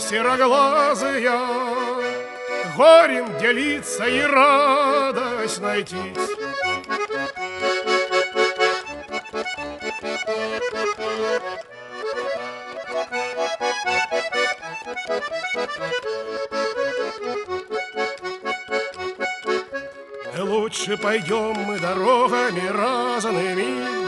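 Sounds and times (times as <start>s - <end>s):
button accordion playing: 0.0s - 24.0s.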